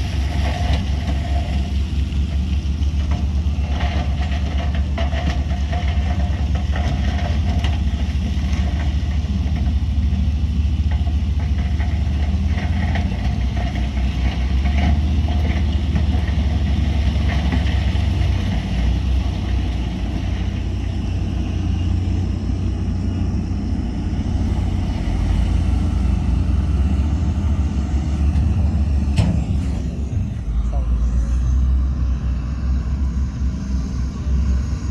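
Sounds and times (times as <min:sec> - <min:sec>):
diesel earthmoving machinery rumbling: 0:00.0 - 0:34.9.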